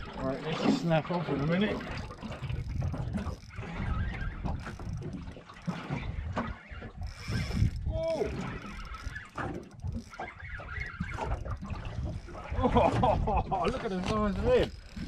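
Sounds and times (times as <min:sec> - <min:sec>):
fishing reel clicking and whirring: 0:00.0 - 0:15.0
wind buffeting microphone: 0:00.0 - 0:15.0.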